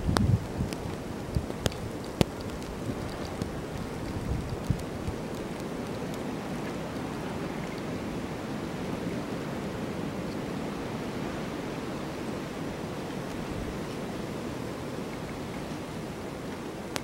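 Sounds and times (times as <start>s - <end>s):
wind rushing in snowstorm: 0.0s - 17.0s.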